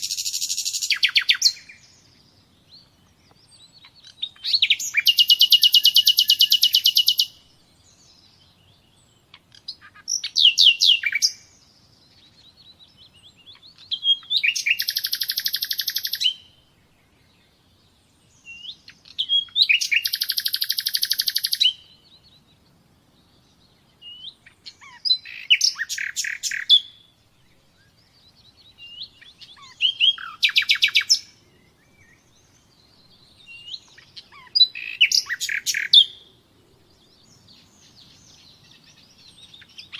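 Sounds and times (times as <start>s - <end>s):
songbird trilling: 0.0s - 16.6s, 18.3s - 22.6s, 23.3s - 36.4s, 37.0s - 39.9s
soft bird chirps: 0.0s - 39.9s.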